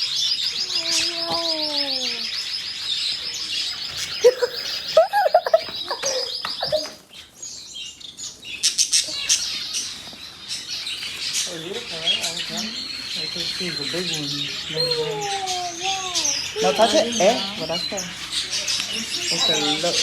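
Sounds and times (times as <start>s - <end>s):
caged birds chattering: 0.0s - 20.0s
lower falling bird calls: 0.0s - 20.0s.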